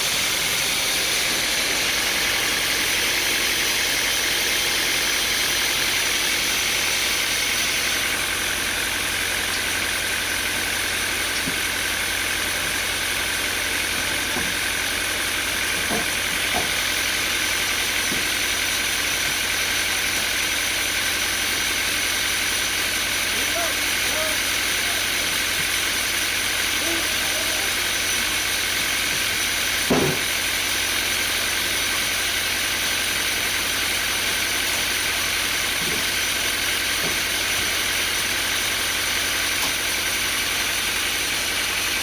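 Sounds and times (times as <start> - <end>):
sawmill motor whining: 0.0 - 42.0.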